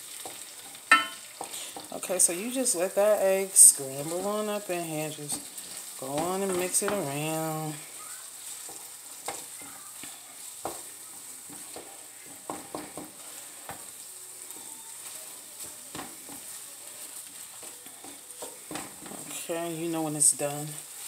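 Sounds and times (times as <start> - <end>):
food sizzling in a frying pan: 0.0 - 21.0
wooden spoon scraping a pan: 0.0 - 21.0.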